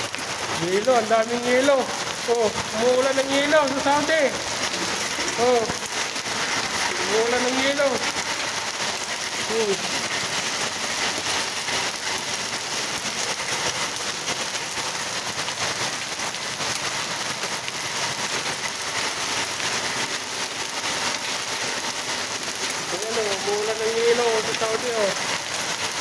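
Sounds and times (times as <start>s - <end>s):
hailstones on pavement: 0.0s - 26.0s.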